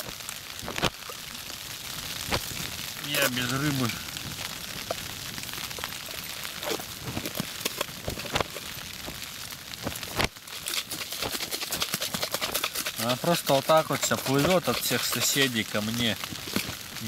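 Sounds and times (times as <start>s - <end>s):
rain pattering on tent fabric: 0.0s - 17.0s.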